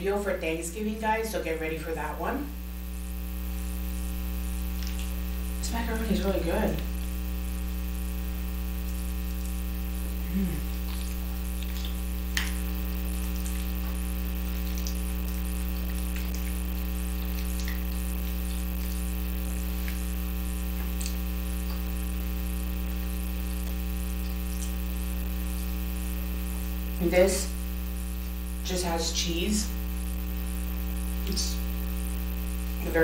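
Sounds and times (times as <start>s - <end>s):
electrical mains hum: 0.0s - 33.0s.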